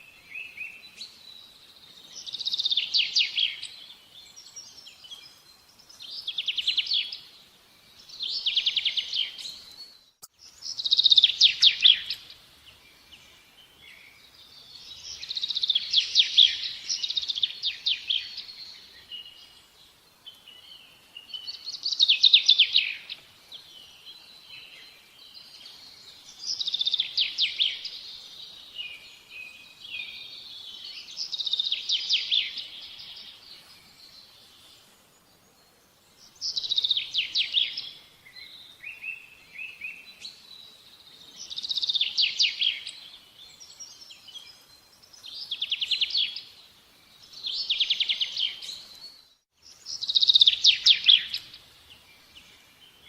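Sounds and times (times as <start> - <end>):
songbird chirping: 0.0 - 53.0.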